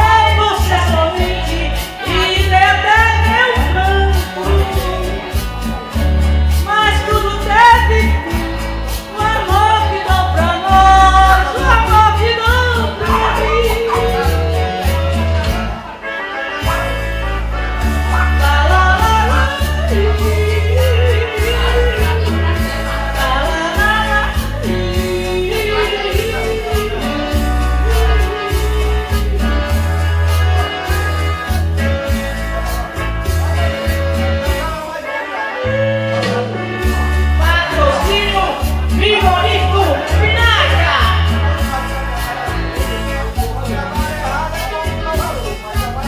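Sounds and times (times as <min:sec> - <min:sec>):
pulsing bass beat: 0:00.0 - 0:15.9, 0:16.6 - 0:34.8, 0:35.9 - 0:46.0
guitar: 0:00.0 - 0:46.0
person singing: 0:00.0 - 0:46.0.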